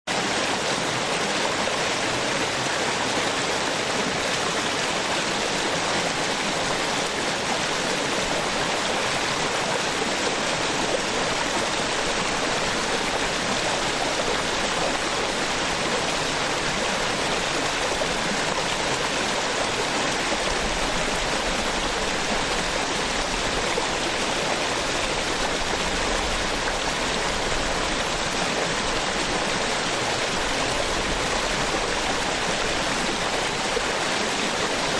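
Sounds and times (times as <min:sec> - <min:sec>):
small waterfall rushing: 0:00.1 - 0:34.9.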